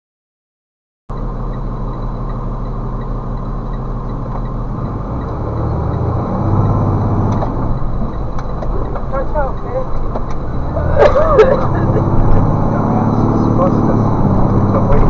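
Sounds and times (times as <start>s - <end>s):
road noise: 1.1s - 15.0s
vehicle engine drone: 1.1s - 15.0s.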